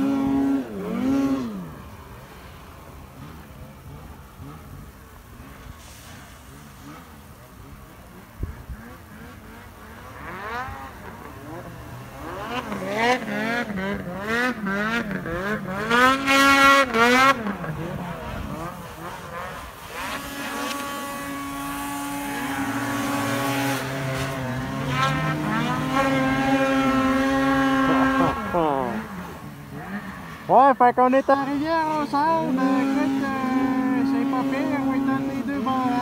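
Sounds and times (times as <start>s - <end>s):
snowmobile engines revving: 0.0s - 36.0s.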